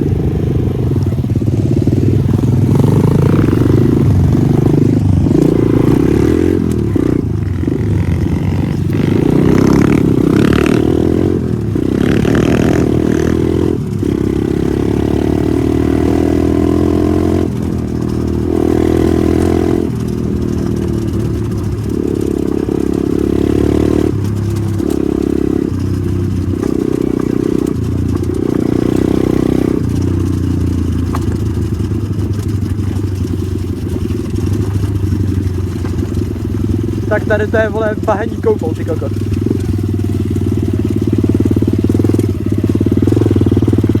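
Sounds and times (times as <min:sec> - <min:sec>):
motorbike engine revving: 0:00.0 - 0:44.0.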